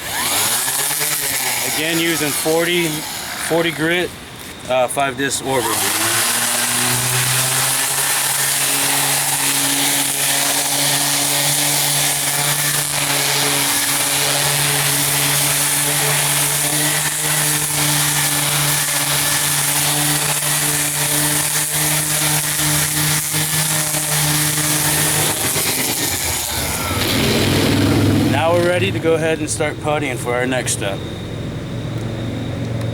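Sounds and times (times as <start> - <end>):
orbital sander sanding: 0.0 - 30.9.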